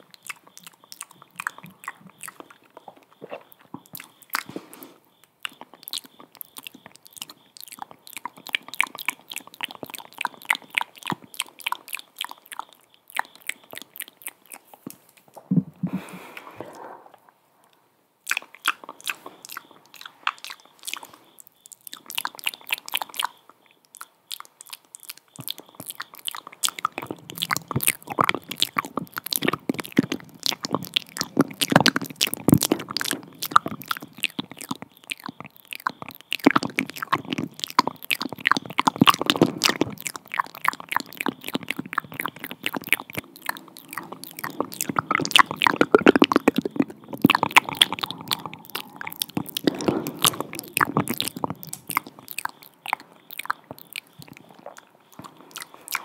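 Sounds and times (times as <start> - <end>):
lip and tongue clicking: 0.0 - 16.8, 17.7 - 56.0.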